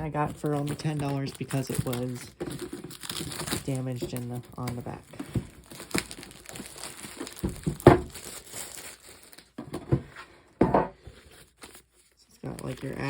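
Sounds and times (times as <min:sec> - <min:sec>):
packaging crinkling and rustling: 0:00.0 - 0:10.1, 0:11.0 - 0:13.0.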